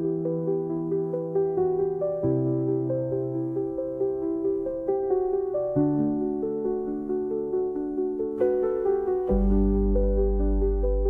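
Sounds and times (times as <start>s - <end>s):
soft piano notes: 0.0s - 11.0s.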